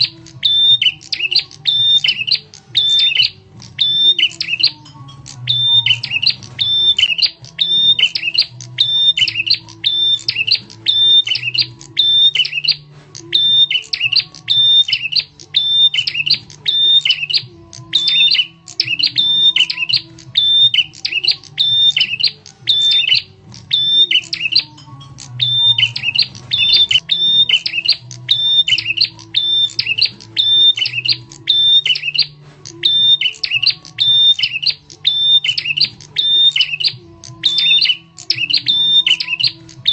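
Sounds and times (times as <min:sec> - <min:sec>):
bird sharp chirping calls: 0:00.0 - 0:39.9.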